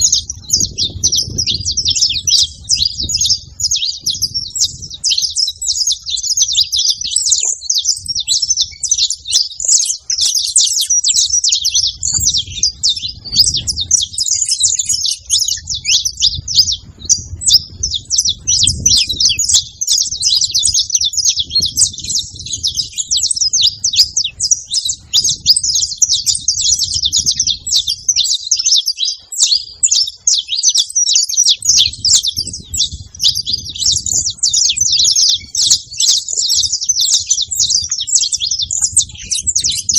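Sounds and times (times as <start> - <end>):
flock of finches chirping: 0.0 - 39.9.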